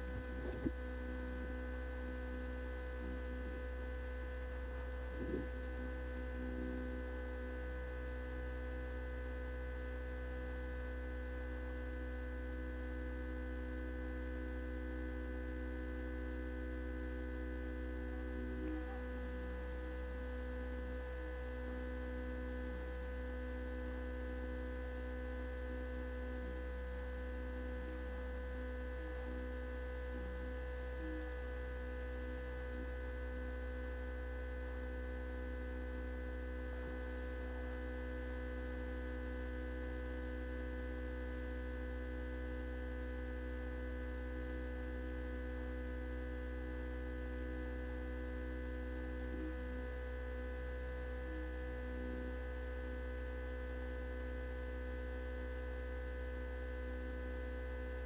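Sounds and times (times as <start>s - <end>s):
electrical hum with low drone: 0.0s - 58.0s.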